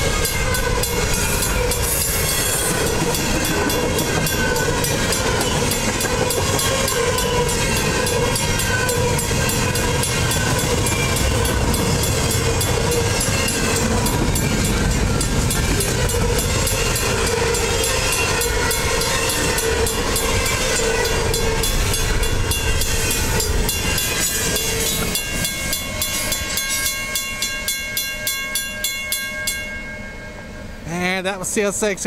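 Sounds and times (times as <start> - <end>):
crossing bell ringing: 0.0 - 32.0
train wheels rumbling on rail: 0.0 - 32.0.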